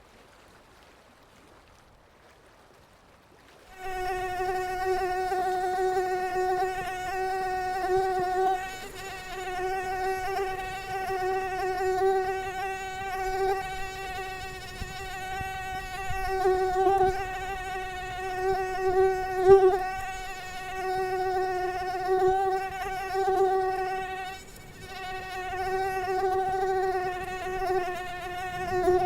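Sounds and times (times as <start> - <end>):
mosquito buzzing: 3.7 - 29.0.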